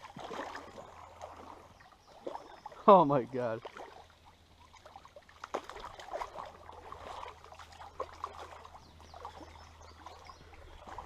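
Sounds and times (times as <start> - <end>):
creek water splashing: 0.0 - 11.0.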